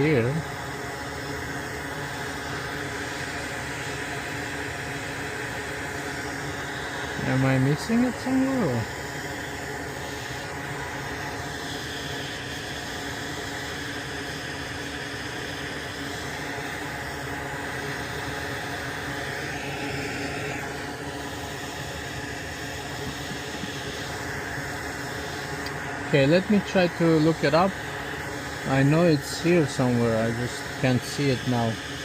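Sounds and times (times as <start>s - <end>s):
steady background hum and hiss: 0.0s - 32.0s.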